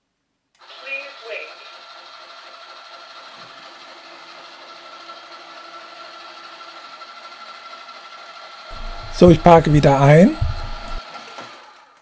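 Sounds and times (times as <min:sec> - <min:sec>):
robot vacuum whirring: 0:00.6 - 0:11.8.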